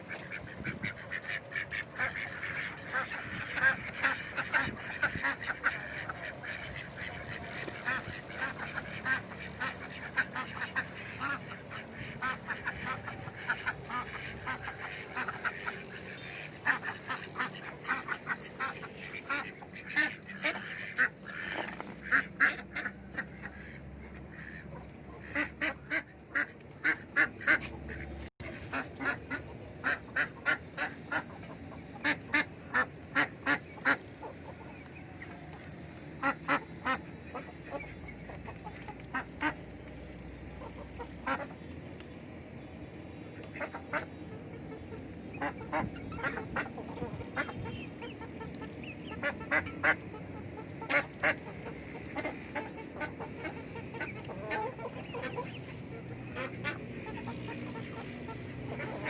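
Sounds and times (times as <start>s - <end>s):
ducks quacking: 0.0s - 42.2s, 43.1s - 59.0s.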